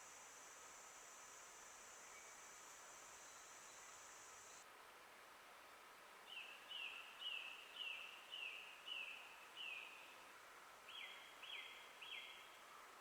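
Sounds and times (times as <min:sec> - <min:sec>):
soft background hiss: 0:00.0 - 0:13.0.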